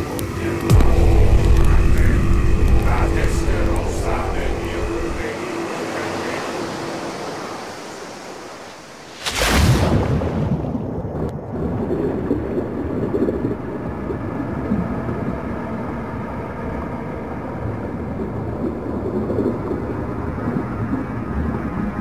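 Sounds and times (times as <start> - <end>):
underwater low rumbling: 0.0 - 9.0, 9.7 - 22.0
faint droning tones: 0.0 - 9.2, 11.9 - 22.0.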